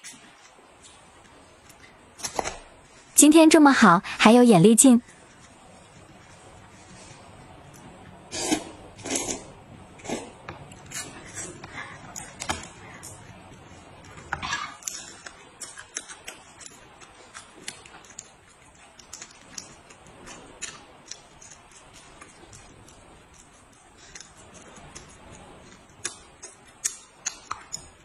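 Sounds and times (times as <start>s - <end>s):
shrimp shells being peeled: 5.3s - 28.0s.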